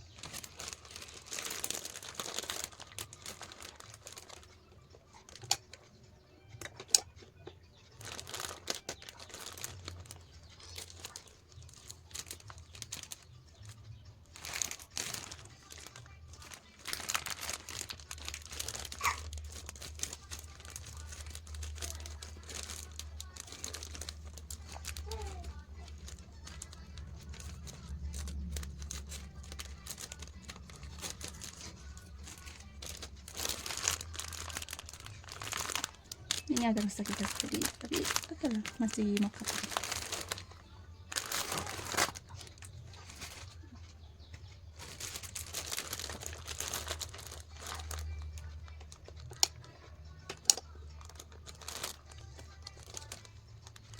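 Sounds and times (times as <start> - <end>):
plastic packets crinkling: 0.0 - 43.9, 44.7 - 53.9.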